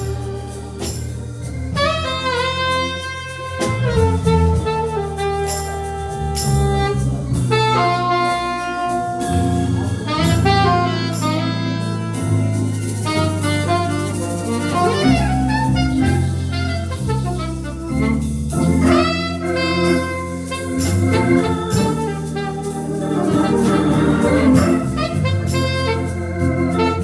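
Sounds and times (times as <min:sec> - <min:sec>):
drums with cymbal strokes: 0:00.0 - 0:27.0
horn playing melody: 0:00.0 - 0:27.0
walking bass line: 0:00.0 - 0:27.0.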